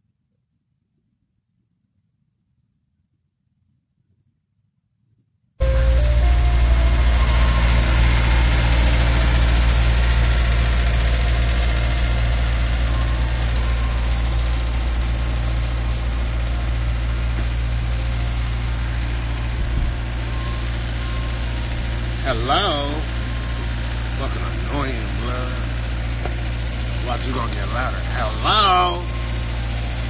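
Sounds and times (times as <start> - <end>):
vehicle engine idling: 5.6 - 30.0.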